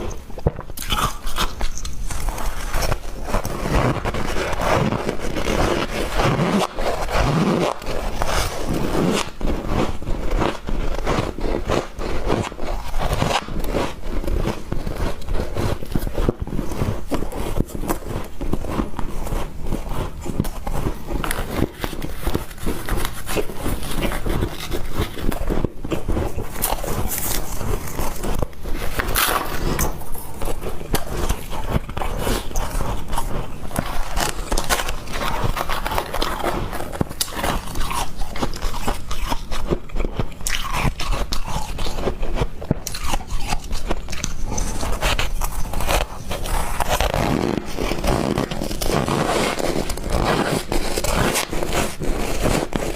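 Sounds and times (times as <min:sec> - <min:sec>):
ice being crunched and chewed: 0:00.0 - 0:52.9.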